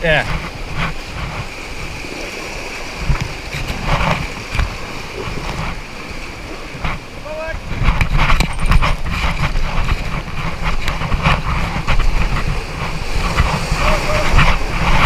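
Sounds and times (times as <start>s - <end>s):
river rapids rushing: 0.0s - 15.0s
rumble on microphone: 0.0s - 15.0s.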